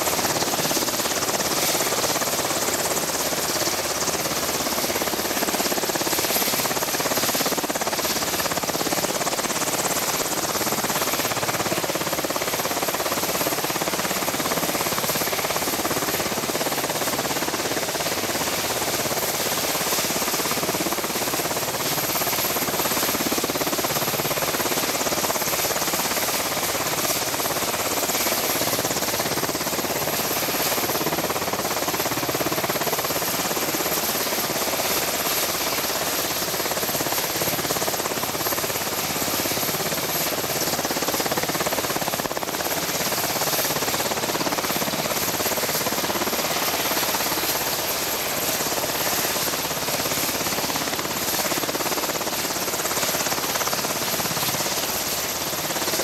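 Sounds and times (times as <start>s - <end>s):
helicopter running on ground: 0.0s - 56.0s.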